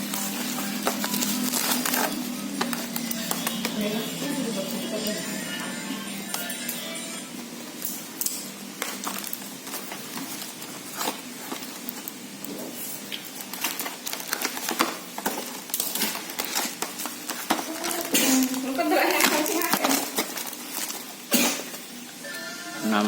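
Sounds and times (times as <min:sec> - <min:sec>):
packaging crinkling and rustling: 0:00.0 - 0:05.4, 0:07.3 - 0:22.1.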